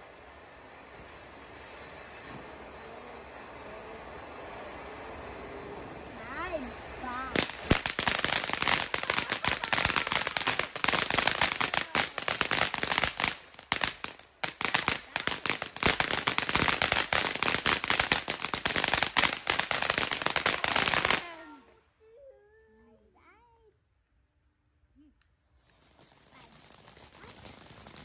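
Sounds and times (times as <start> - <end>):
firecrackers banging: 0.0 - 21.6, 25.7 - 28.0.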